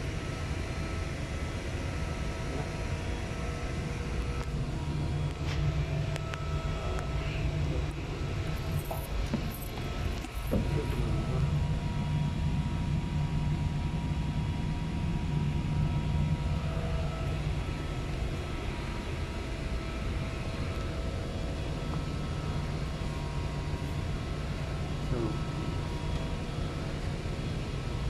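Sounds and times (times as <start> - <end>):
faint steady tones: 0.0 - 28.0
machinery droning: 0.0 - 28.0.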